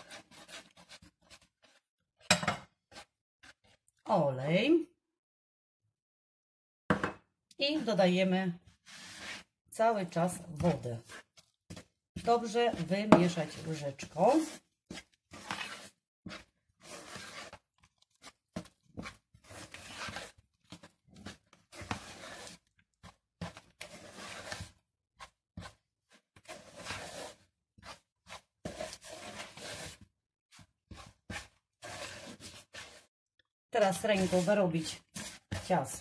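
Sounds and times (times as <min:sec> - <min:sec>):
spoon scraping dough in plastic bowl: 0:00.0 - 0:04.1, 0:07.6 - 0:33.1, 0:33.8 - 0:36.0.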